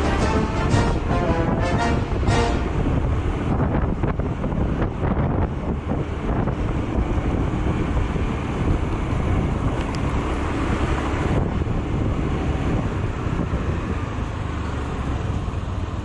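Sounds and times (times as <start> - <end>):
tyre and road noise: 0.0 - 16.0
wind buffeting microphone: 0.0 - 16.0
scooter engine: 2.8 - 16.0.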